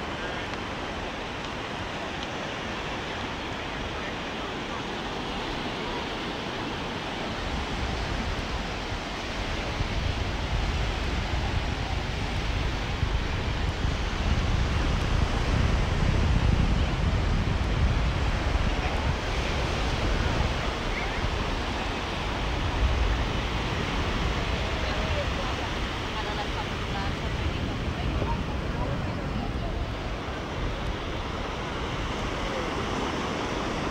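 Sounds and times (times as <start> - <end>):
surf washing on beach: 0.0 - 33.9
wind rumbling on microphone: 0.0 - 33.9.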